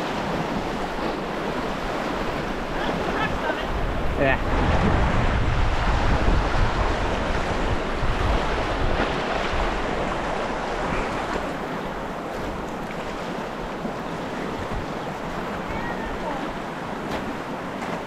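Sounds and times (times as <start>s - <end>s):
rushing river water: 0.0s - 18.0s
wind buffeting microphone: 0.0s - 18.0s.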